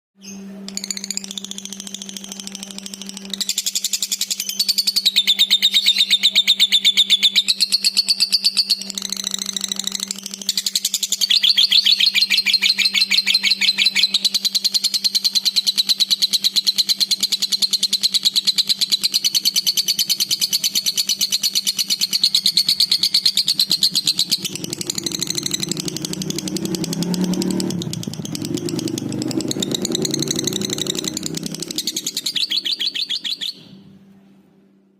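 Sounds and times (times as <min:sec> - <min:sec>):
lovebird chattering trill: 0:00.3 - 0:33.8.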